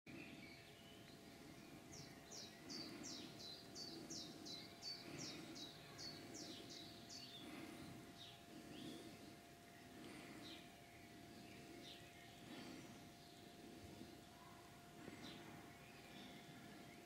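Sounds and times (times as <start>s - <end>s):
low outdoor rumble: 1.1s - 17.0s.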